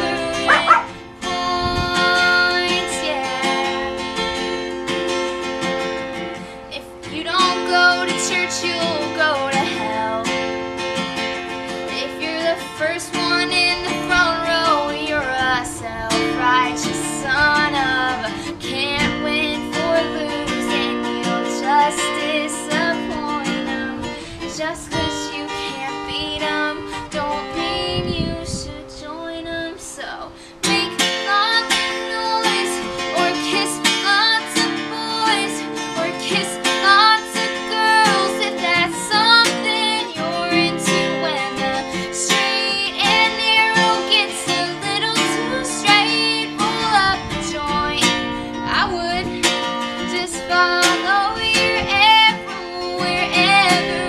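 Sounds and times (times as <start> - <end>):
woman singing: 0.0 - 5.1, 5.7 - 10.6, 11.2 - 54.0
acoustic guitar strumming: 0.0 - 54.0.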